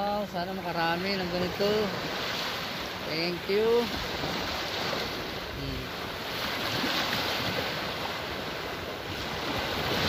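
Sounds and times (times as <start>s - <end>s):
sea surf washing onto beach: 0.0s - 10.0s.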